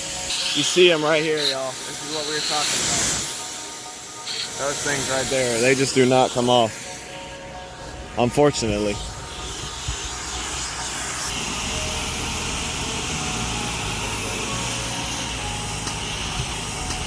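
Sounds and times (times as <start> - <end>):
pressure washer spray hiss: 0.0 - 8.0, 8.6 - 17.0.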